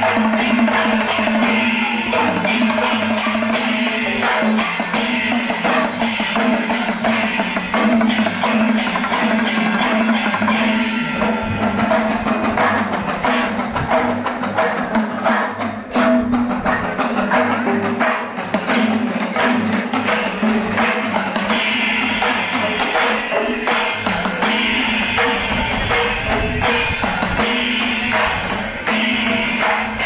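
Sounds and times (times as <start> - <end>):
cymbals: 0.0 - 30.0
rapid dense drumming: 0.0 - 30.0.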